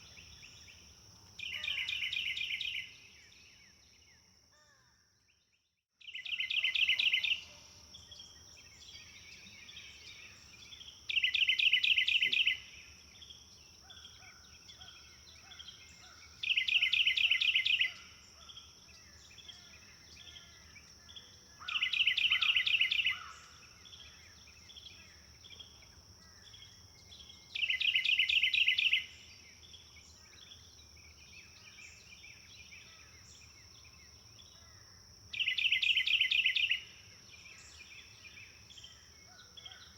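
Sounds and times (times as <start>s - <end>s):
faint bird chirps: 0.0s - 39.9s
songbird song: 0.0s - 39.9s.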